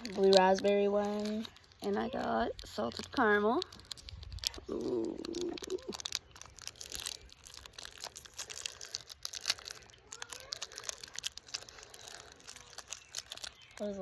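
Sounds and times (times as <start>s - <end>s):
candy wrappers crinkling: 0.0s - 14.0s.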